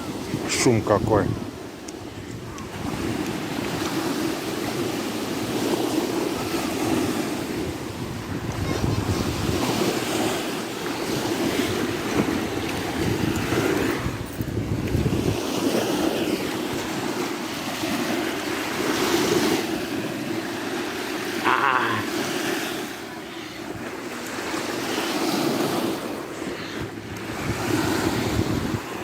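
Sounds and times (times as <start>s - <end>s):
wind buffeting microphone: 0.0s - 21.1s, 23.6s - 29.0s
wave splashing: 0.0s - 29.0s
waves washing in: 0.0s - 29.0s.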